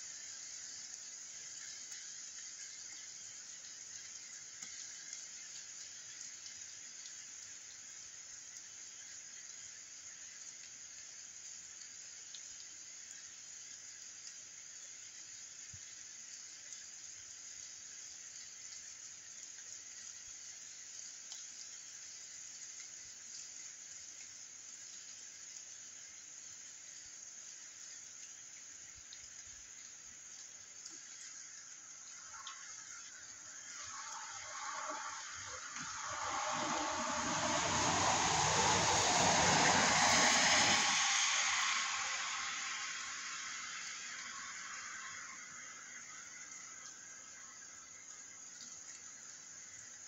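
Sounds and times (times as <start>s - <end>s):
rain falling on wet street: 0.0s - 26.0s, 27.0s - 47.0s.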